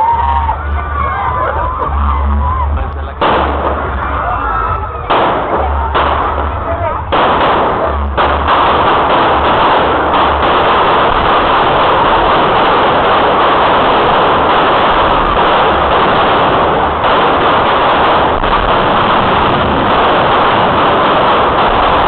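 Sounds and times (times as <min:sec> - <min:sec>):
fireworks crackling and banging: 0:02.9 - 0:22.0.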